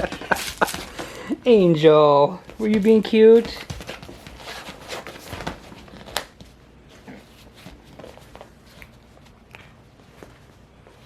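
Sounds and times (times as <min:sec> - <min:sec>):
puppy scuffling and rustling: 0:00.0 - 0:11.0.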